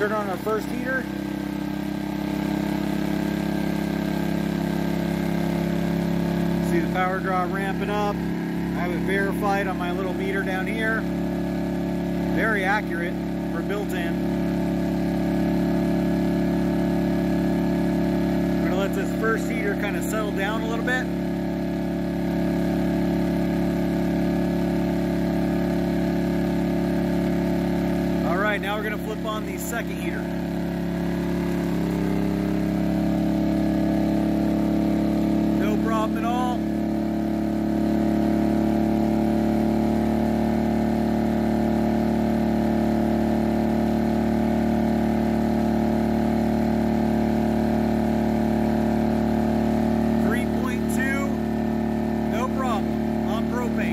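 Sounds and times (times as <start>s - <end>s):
generator running: 0.0s - 53.9s.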